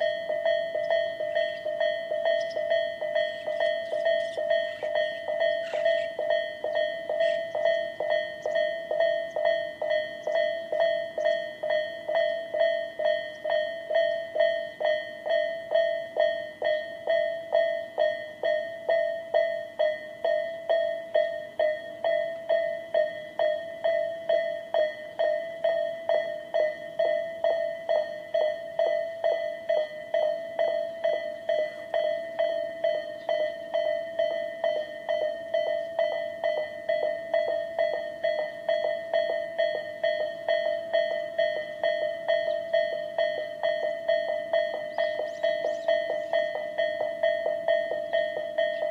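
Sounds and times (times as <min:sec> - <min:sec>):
level crossing warning bells: 0:00.0 - 0:48.9.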